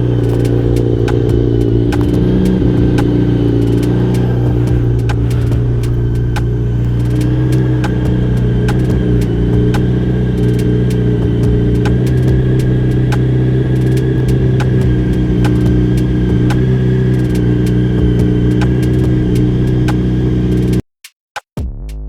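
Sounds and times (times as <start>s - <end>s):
motorcycle engine idling: 0.0s - 20.8s
sharp clicks: 0.0s - 21.6s.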